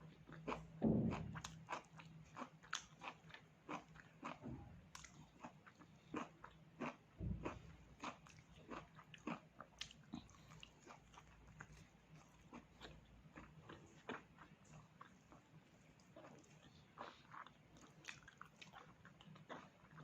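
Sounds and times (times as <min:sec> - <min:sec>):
chewing and biting crunches: 0:00.3 - 0:20.0.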